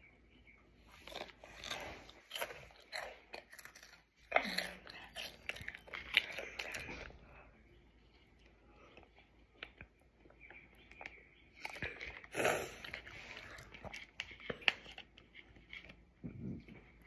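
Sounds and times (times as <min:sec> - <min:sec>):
person chewing crunchy chips: 0:00.8 - 0:07.3, 0:08.0 - 0:17.0.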